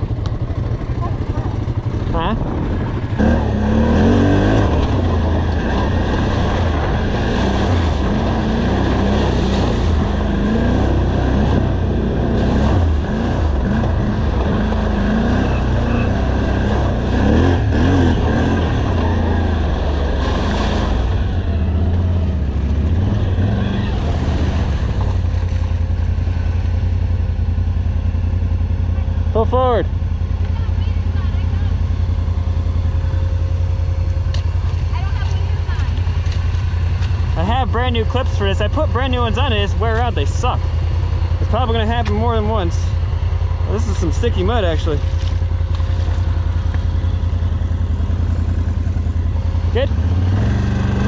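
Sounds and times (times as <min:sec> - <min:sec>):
atv engine revving: 0:00.0 - 0:51.0.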